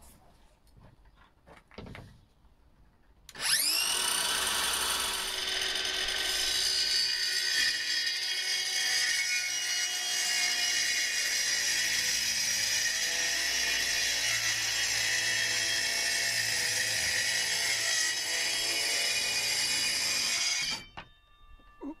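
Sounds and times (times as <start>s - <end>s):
circular saw cutting board: 3.3s - 21.2s.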